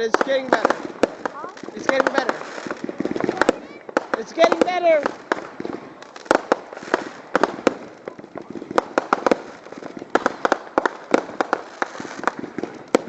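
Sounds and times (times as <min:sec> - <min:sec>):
fireworks bangs and pops: 0:00.0 - 0:13.0
fireworks crackling: 0:00.0 - 0:13.0.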